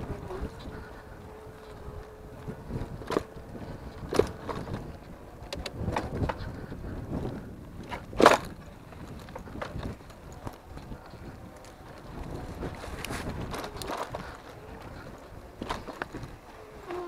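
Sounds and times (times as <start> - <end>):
bike knocking and rattling: 0.0 - 17.0.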